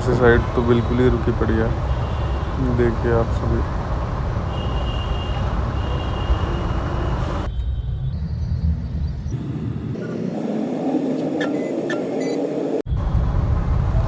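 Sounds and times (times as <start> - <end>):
congested traffic rumble: 0.0 - 14.0.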